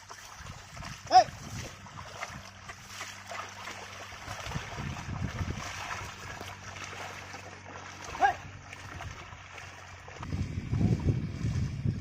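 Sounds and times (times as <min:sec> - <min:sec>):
water and mud splashing: 0:00.0 - 0:12.0.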